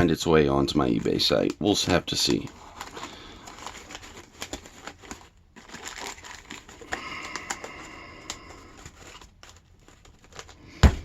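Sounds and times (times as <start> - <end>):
packaging rustling and crinkling: 0.7 - 11.0.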